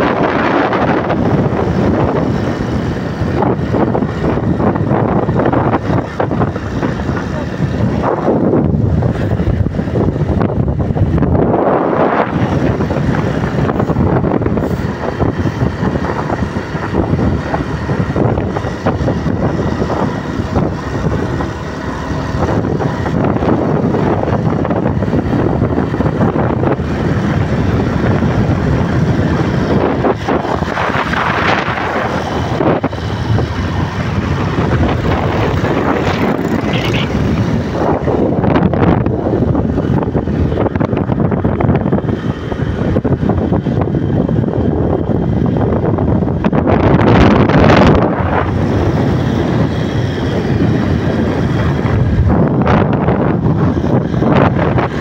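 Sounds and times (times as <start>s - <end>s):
motorcycle engine: 0.0s - 55.0s
road noise: 0.0s - 55.0s
wind rushing over microphone: 0.0s - 55.0s.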